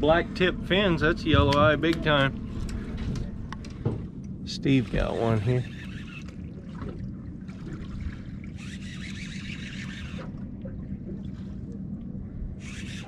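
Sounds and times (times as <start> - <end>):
outboard motor idling: 0.0 - 13.0
water lapping against hull: 0.0 - 13.0.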